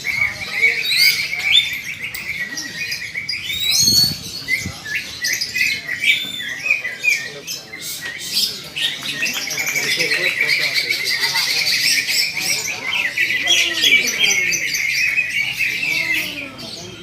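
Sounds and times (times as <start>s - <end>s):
caged birds singing: 0.0s - 17.0s.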